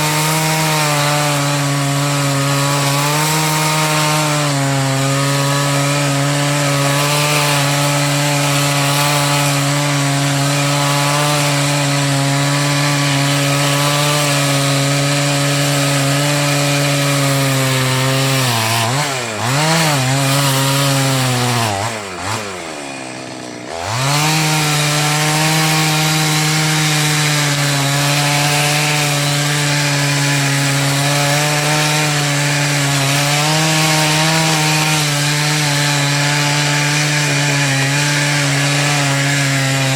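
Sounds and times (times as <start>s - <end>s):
two-stroke chainsaw running: 0.0s - 39.9s.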